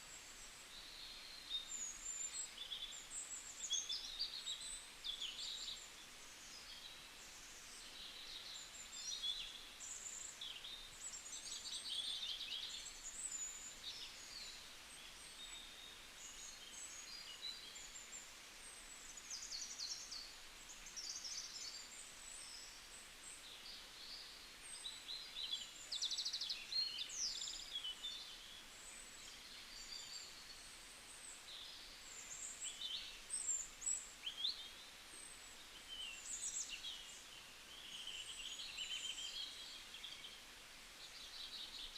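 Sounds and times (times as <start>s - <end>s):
faint steady hiss: 0.0s - 41.9s
songbirds chirping and twittering: 0.0s - 41.9s.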